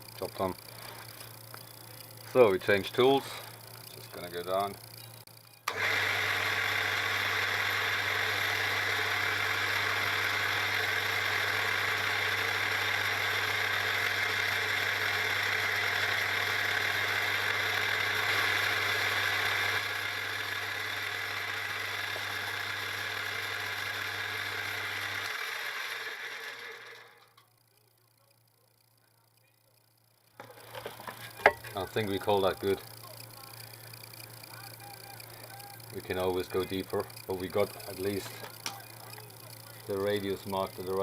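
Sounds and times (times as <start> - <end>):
milling machine spindle humming: 0.0 - 41.0
spindle winding down: 0.0 - 41.0.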